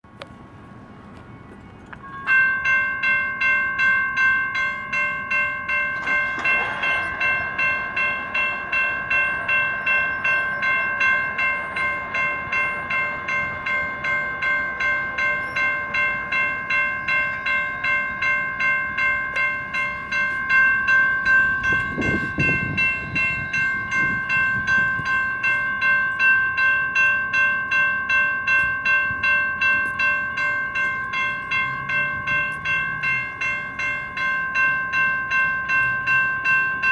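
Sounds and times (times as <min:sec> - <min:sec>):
crossing signal electronic bells: 0:01.9 - 0:36.9.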